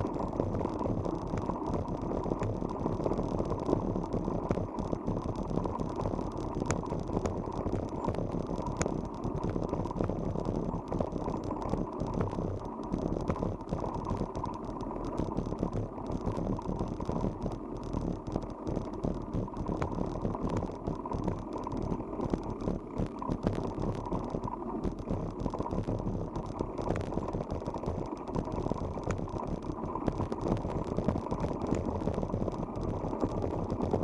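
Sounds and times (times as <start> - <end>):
bicycle tyres rumbling: 0.0 - 34.0
sharp clicks: 0.1 - 34.0.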